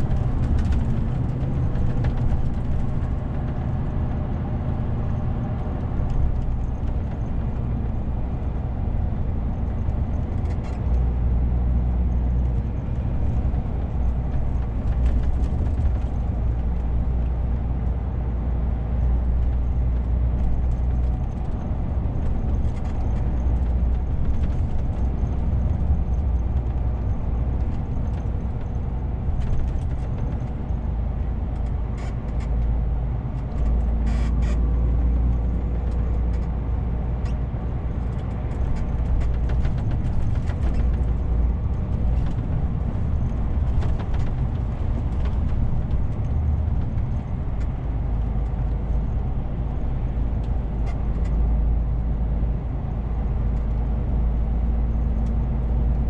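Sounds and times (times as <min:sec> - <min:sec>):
truck diesel engine rumble: 0:00.0 - 0:56.0.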